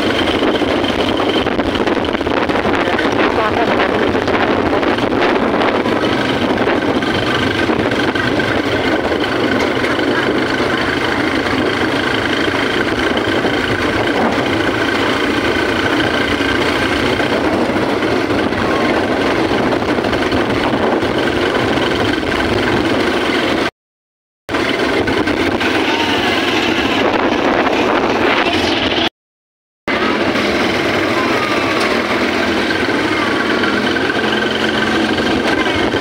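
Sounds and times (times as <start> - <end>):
motorcycle engine running: 0.0 - 23.7, 24.5 - 29.1, 29.9 - 36.0
road and wind noise: 0.0 - 23.7, 24.5 - 29.1, 29.9 - 36.0.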